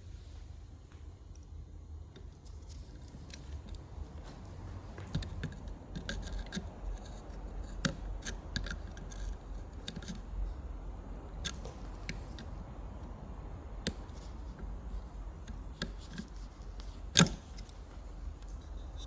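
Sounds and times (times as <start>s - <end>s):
light clicks and scrapes: 2.2s - 10.6s, 11.4s - 13.2s, 13.8s - 19.0s.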